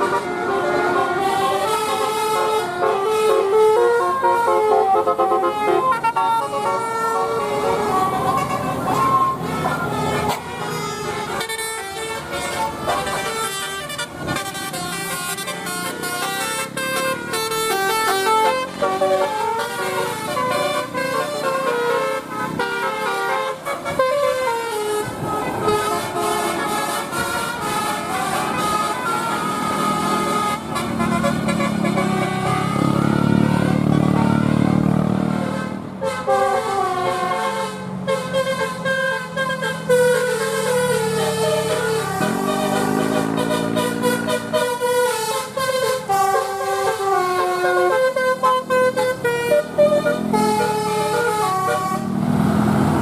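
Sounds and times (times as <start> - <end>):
multi-tone melodic bus horn: 0.0 - 53.0.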